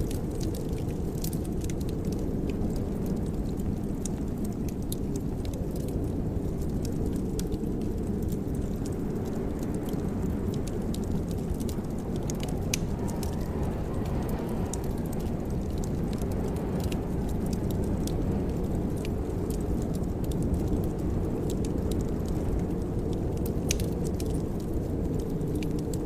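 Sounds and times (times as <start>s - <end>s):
steady low rumble: 0.0s - 26.0s
wood fire crackling: 0.0s - 26.0s.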